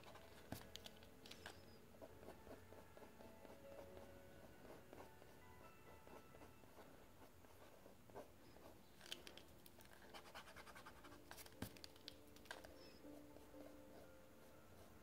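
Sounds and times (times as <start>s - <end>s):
pencil scratching on paper: 0.0s - 11.8s, 12.5s - 15.0s.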